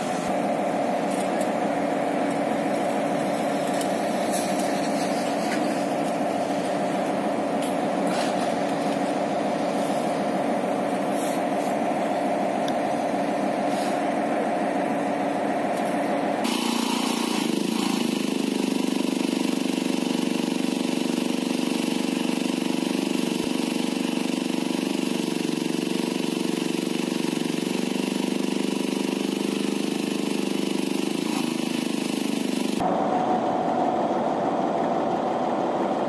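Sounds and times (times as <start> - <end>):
crane engine idling: 0.0 - 36.0.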